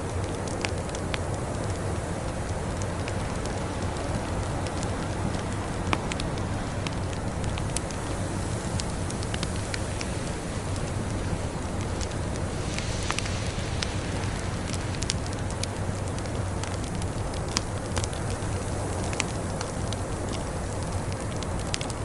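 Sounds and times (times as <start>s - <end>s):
snowstorm wind rushing: 0.0s - 22.0s
wood fire crackling: 0.0s - 22.0s.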